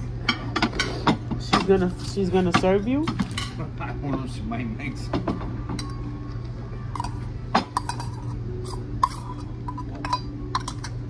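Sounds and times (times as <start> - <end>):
steady low hum: 0.0 - 11.0
dishes and cutlery clinking: 0.2 - 4.3, 5.1 - 6.1, 6.9 - 11.0.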